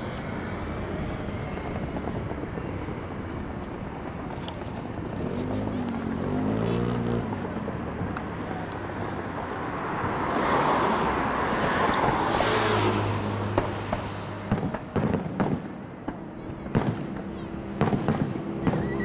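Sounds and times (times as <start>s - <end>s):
distant fireworks bangs and crackles: 0.0s - 10.2s, 11.5s - 19.0s
road traffic noise: 0.0s - 19.0s.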